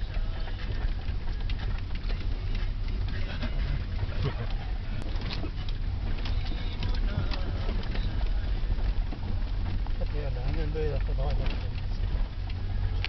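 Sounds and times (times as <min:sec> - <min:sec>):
small clicks and rattles: 0:00.0 - 0:13.0
vehicle rumbling on rough road: 0:00.0 - 0:13.0.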